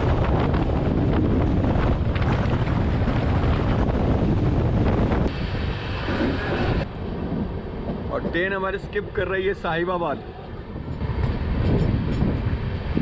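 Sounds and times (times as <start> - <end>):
wind buffeting microphone: 0.0 - 9.3, 10.1 - 13.0
train rumbling: 0.0 - 13.0.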